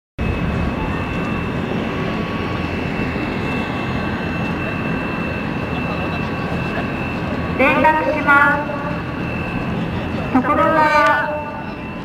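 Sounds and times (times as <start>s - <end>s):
engine low rumble: 0.2s - 12.0s
high-pitched whine: 0.2s - 12.0s.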